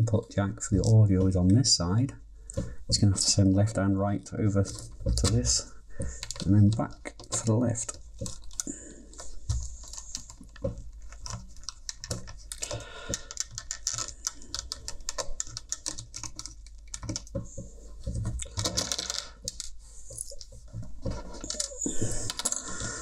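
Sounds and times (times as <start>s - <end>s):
plastic clicks and scrapes: 4.4s - 23.0s.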